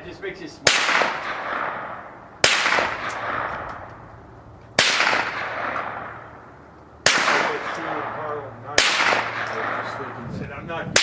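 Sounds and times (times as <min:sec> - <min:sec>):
close gunshots with echo: 0:00.6 - 0:04.0, 0:04.8 - 0:10.3
distant gunshots: 0:00.6 - 0:04.0, 0:04.8 - 0:10.2.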